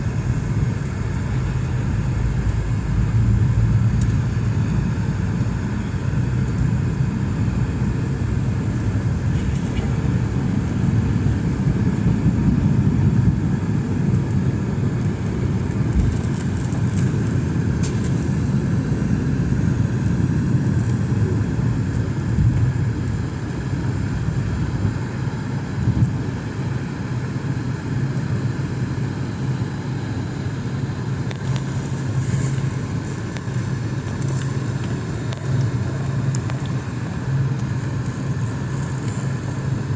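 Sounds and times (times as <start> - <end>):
airliner jet engines rumbling: 0.0 - 39.9.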